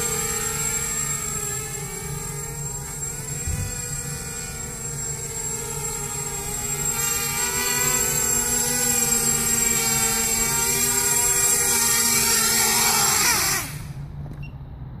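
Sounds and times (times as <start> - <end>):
drone motors whining: 0.0 - 14.5.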